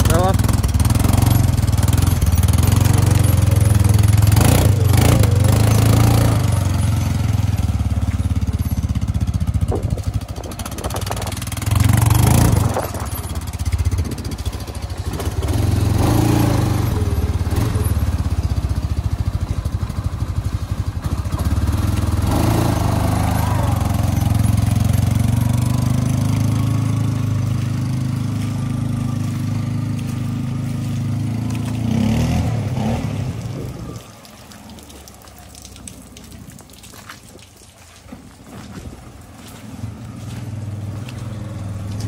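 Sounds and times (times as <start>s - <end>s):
quad bike engine running: 0.0s - 34.3s, 38.4s - 42.0s.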